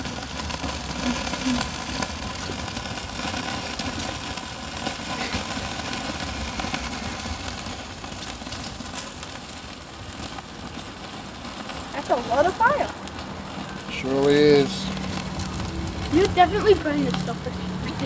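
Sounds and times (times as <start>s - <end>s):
crackles and sizzling pops: 0.0s - 18.0s
fat fire flames rushing: 0.0s - 18.0s.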